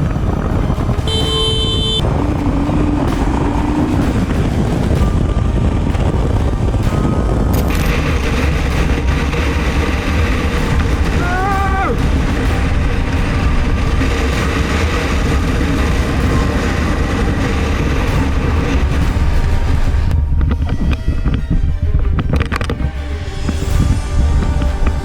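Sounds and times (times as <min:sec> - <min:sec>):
motorcycle engine rumble: 0:00.0 - 0:20.8
wind noise on microphone: 0:00.0 - 0:25.0.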